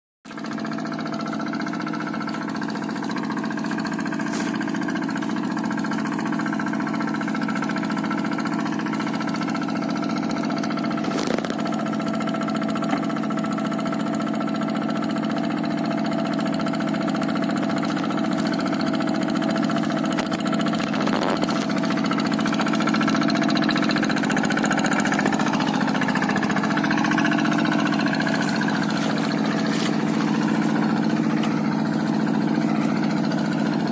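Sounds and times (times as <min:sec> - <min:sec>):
diesel engine running: 0:00.3 - 0:33.9.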